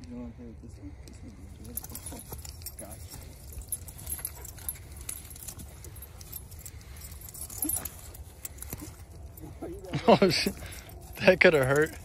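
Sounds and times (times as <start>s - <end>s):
dog collar tags jingling: 1.0s - 12.0s.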